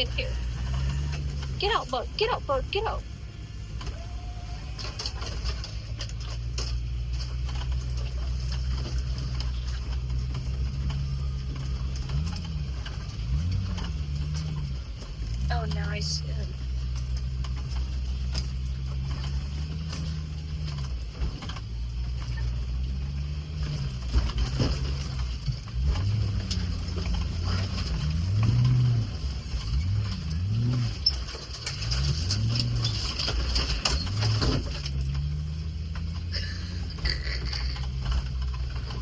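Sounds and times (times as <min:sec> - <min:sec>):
off-road vehicle engine at low revs: 0:00.0 - 0:39.0
vehicle knocks and bumps: 0:03.5 - 0:39.0.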